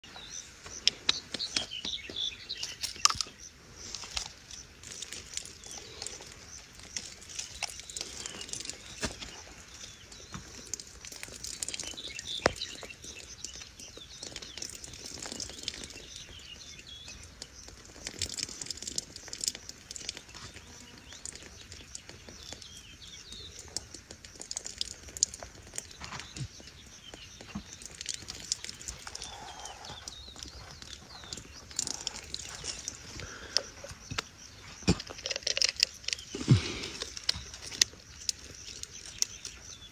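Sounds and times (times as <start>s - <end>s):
birds chirping: 0.0s - 39.9s
squirrel lapping water clicks: 4.0s - 39.8s.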